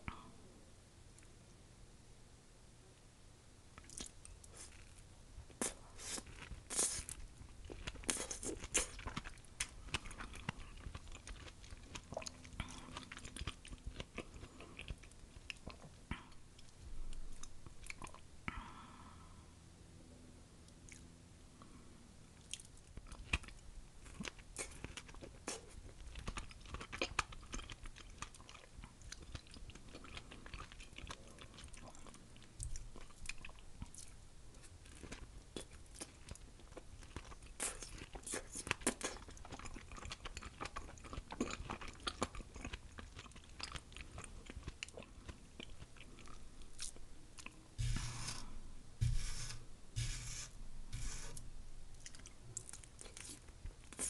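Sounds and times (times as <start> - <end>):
chewing and mouth smacks: 3.8 - 18.3, 20.7 - 47.6, 51.9 - 54.0.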